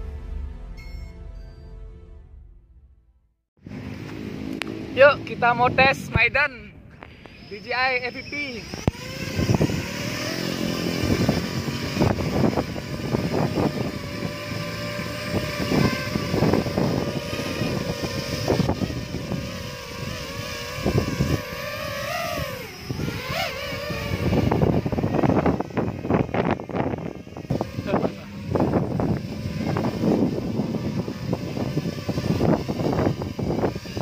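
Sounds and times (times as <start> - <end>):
drone propellers whining: 3.6 - 34.0.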